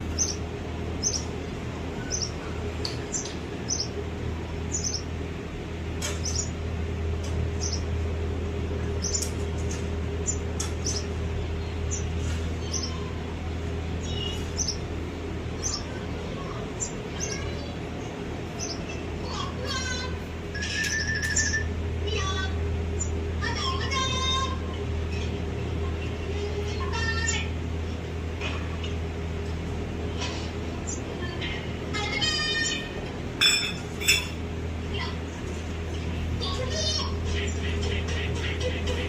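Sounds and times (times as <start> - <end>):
small birds chirping: 0.0 - 5.4, 6.0 - 29.2, 30.1 - 39.0
steady low hum: 0.0 - 39.0.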